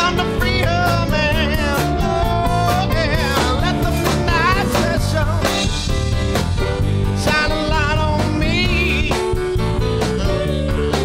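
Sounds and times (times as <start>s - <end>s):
blues rock band playing: 0.0s - 11.0s.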